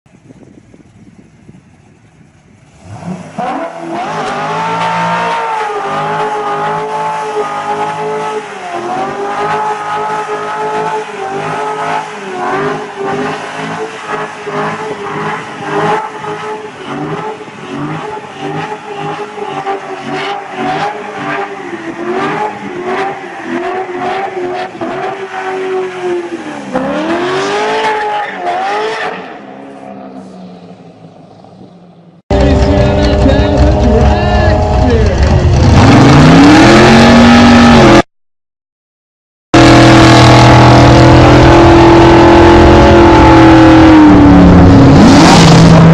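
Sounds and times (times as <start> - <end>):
car engine revving: 1.8 - 38.1, 39.6 - 45.9.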